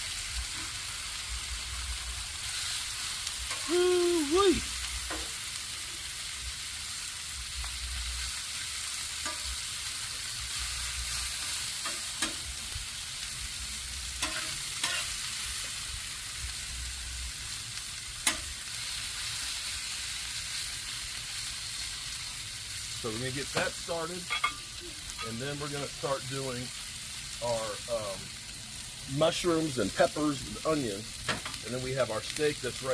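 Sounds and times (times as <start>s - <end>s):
potatoes sizzling in oil: 0.0s - 32.9s.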